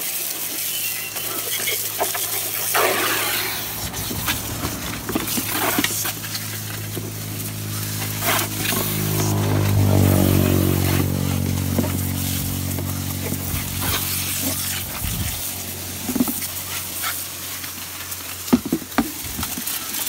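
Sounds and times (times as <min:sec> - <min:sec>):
hose water splashing: 0:00.0 - 0:20.0.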